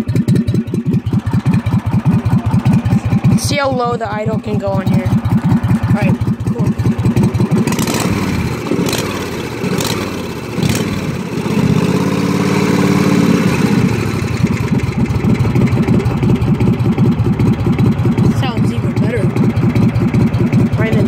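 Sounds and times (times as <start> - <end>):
riding mower engine idling: 0.0 - 21.0.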